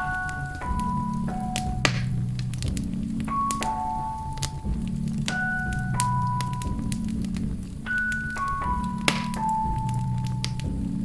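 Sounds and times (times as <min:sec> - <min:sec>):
soft music with bell-like notes: 0:00.0 - 0:11.0
wood fire crackling and popping: 0:00.0 - 0:11.0.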